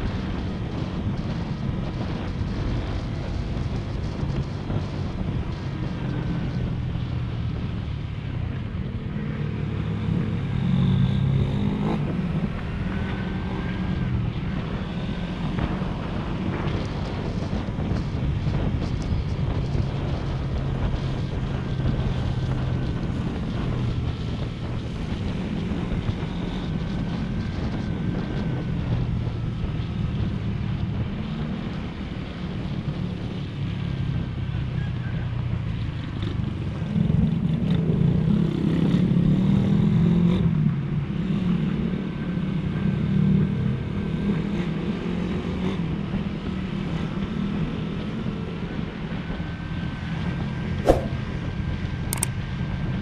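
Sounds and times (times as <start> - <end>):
wind noise on microphone: 0.0 - 53.0.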